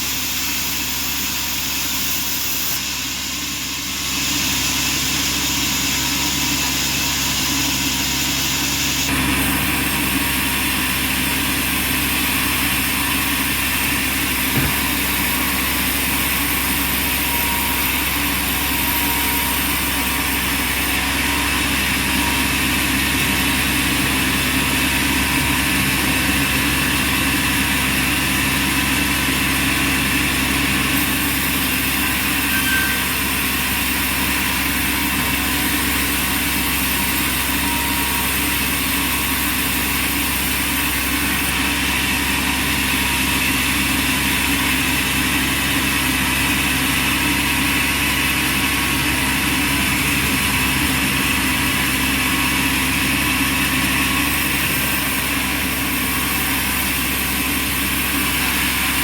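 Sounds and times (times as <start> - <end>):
band sawmill machine drone: 0.0 - 59.0.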